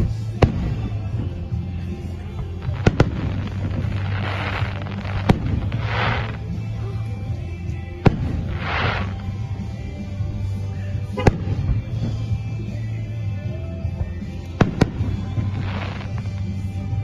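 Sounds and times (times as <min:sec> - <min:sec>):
fireworks bursting: 0:00.0 - 0:17.0
hissing crackling of fireworks: 0:00.0 - 0:17.0.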